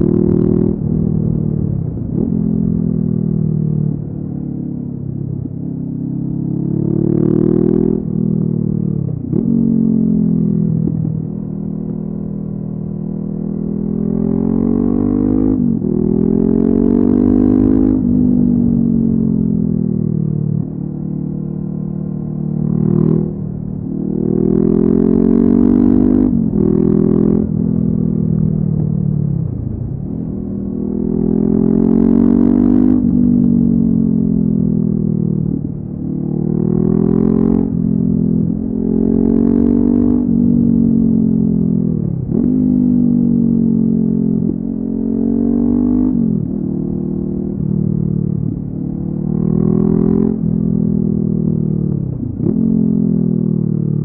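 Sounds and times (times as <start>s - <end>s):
low wind rumble: 0.0s - 7.0s, 7.6s - 54.0s
motorcycle engine revving: 5.5s - 54.0s.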